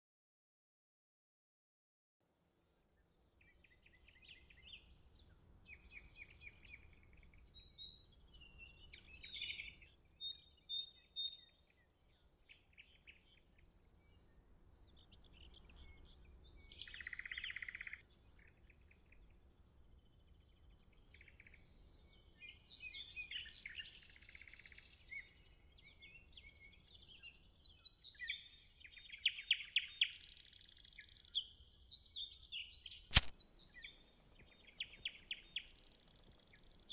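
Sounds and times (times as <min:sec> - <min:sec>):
songbirds chirping and trilling: 0:02.7 - 0:36.9.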